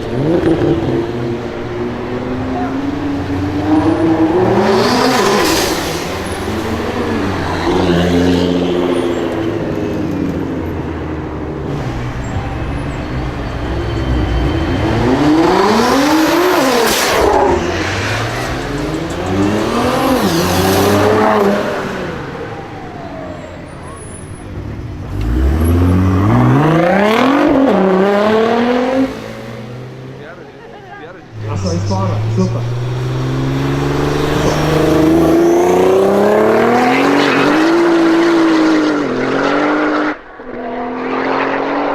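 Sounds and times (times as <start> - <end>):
car engine accelerating hard: 0.0 - 41.9.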